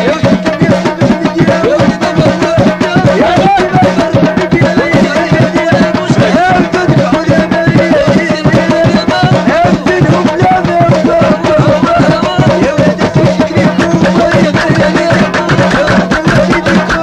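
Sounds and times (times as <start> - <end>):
fast hand-drum strokes: 0.0 - 17.0.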